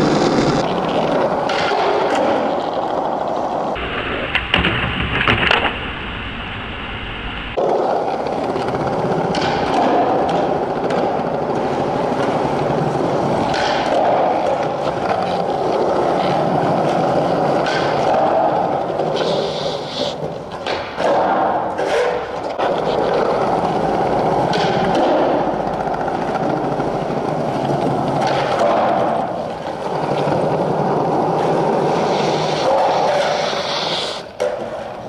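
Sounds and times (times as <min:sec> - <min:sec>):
skateboard clacking on landing: 0:00.0 - 0:05.8, 0:07.6 - 0:35.0
skateboard wheels rolling on concrete: 0:00.0 - 0:35.0.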